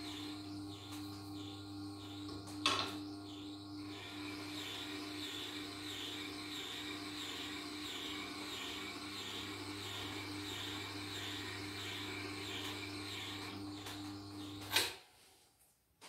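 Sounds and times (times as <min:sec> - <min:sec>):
sharpening machine motor hum: 0:00.0 - 0:14.9.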